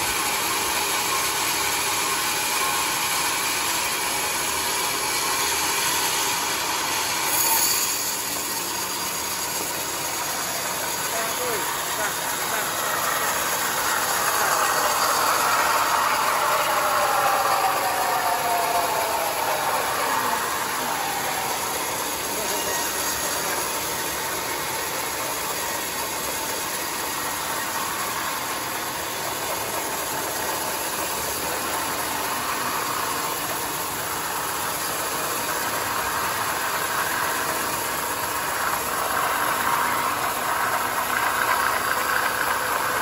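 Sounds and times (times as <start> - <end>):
band saw cutting log: 0.1 - 43.0.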